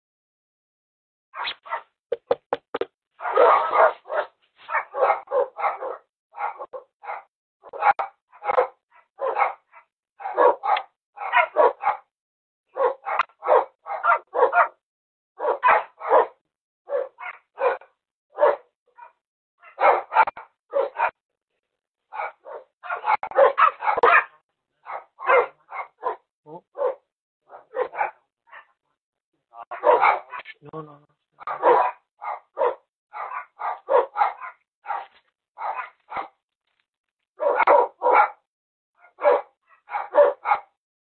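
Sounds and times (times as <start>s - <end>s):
dog barking: 1.4s - 2.0s, 3.2s - 12.1s, 12.7s - 14.8s, 15.4s - 21.2s, 22.1s - 28.8s, 29.6s - 30.6s, 31.4s - 36.4s, 37.4s - 40.8s.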